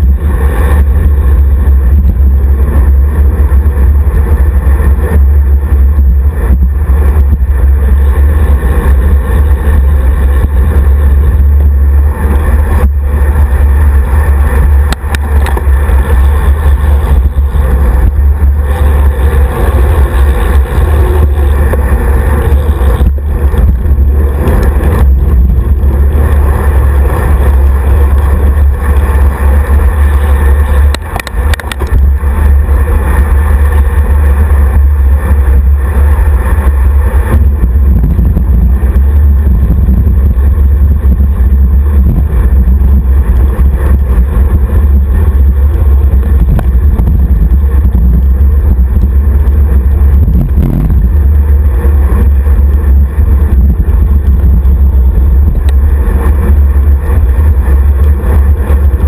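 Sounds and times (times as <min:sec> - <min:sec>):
road rumble: 0:00.0 - 0:59.0
wind rush on microphone: 0:00.0 - 0:59.0.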